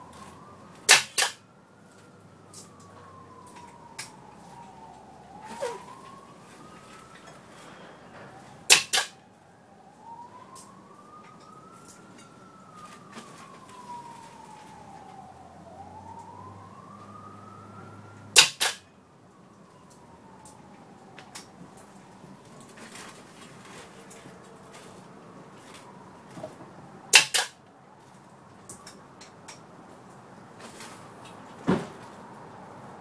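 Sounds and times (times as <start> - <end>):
faint siren: 0.0 - 33.0.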